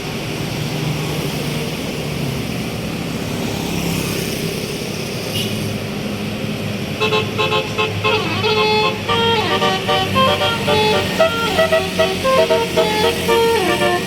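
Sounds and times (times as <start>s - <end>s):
diesel bus engine and road noise: 0.0s - 14.0s.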